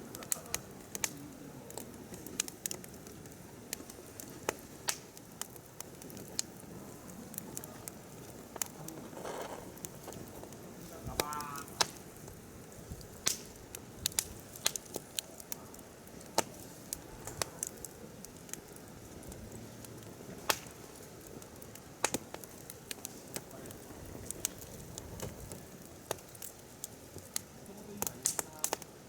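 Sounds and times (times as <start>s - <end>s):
firewood crackles and pops: 0.0s - 29.0s
hiss of flames: 0.0s - 29.0s.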